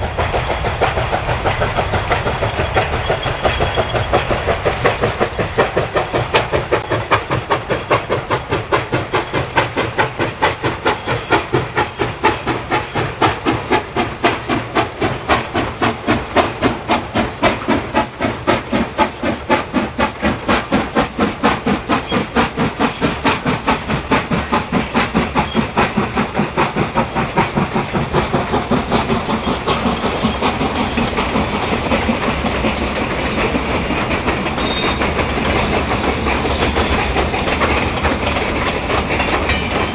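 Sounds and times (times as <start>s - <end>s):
steam hiss: 0.0s - 32.6s, 33.6s - 39.9s
steam locomotive exhaust chuffing: 0.0s - 39.9s.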